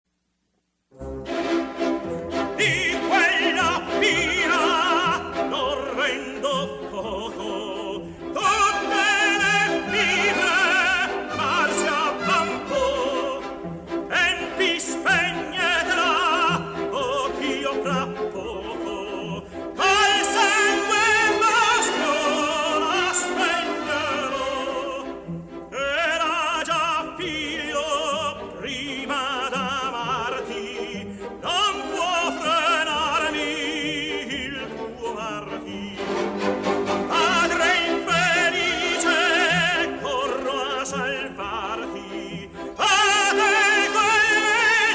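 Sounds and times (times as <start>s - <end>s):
full orchestra playing: 0.9s - 44.9s
tenor singing opera: 1.3s - 44.9s.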